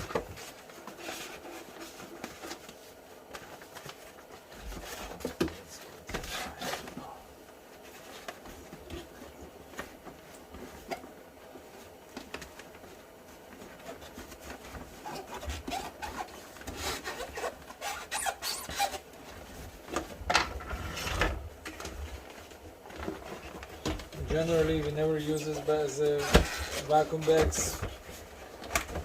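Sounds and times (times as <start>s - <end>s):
vacuum parts rubbing and scraping: 0.0s - 29.0s.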